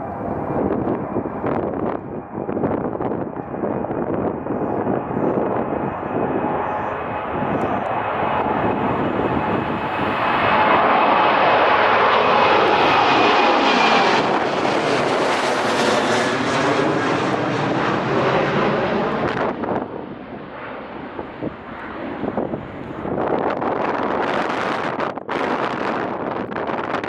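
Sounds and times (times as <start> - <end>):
airliner engines roaring past: 0.0 - 27.0.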